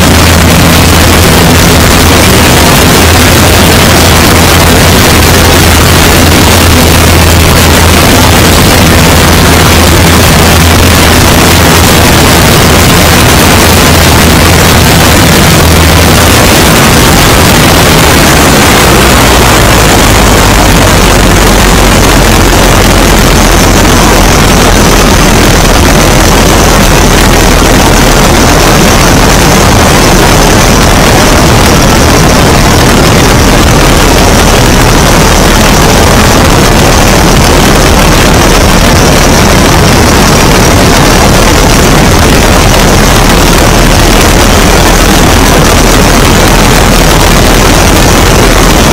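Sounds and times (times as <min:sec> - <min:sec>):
plane engine and propeller: 0:00.0 - 0:48.9
wind rushing over microphone: 0:00.0 - 0:48.9.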